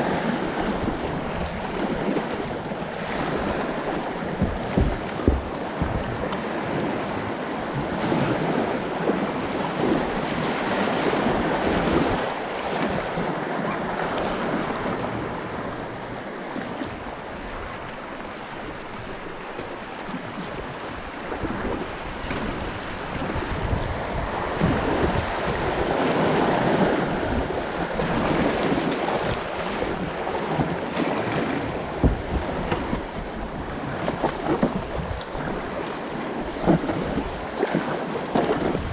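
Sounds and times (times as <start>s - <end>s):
paddle splashes: 0.0s - 38.9s
whitewater rushing: 0.0s - 38.9s
wind buffeting microphone: 0.0s - 38.9s.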